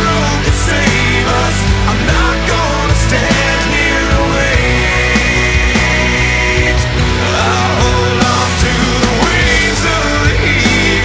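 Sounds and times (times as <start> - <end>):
rock song with full band: 0.0 - 11.0
steady drum beat: 0.0 - 11.0.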